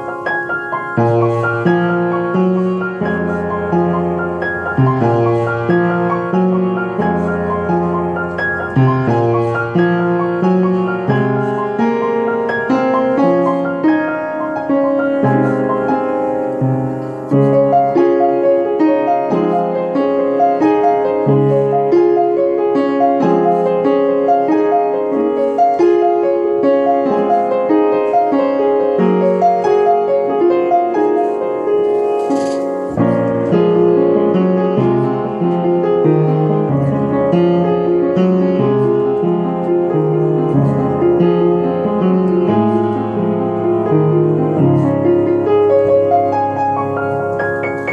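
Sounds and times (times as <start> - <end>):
gentle piano piece: 0.0 - 47.9.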